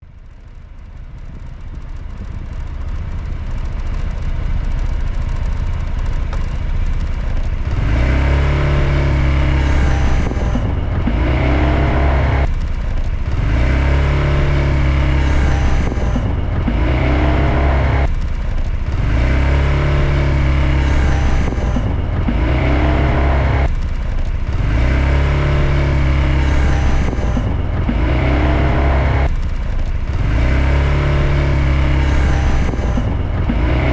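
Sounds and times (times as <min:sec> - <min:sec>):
scooter engine pulling away: 0:01.2 - 0:33.9.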